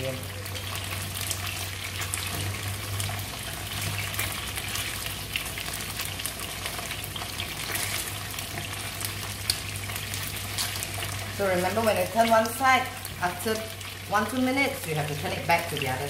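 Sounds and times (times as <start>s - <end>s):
fish frying in hot oil: 0.0s - 16.0s.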